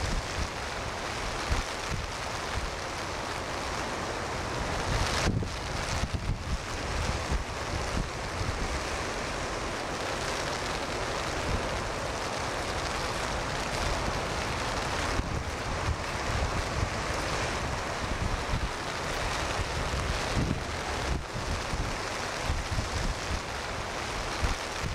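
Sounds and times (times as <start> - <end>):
heavy surf breaking: 0.0 - 24.9
wind buffeting microphone: 4.6 - 24.9.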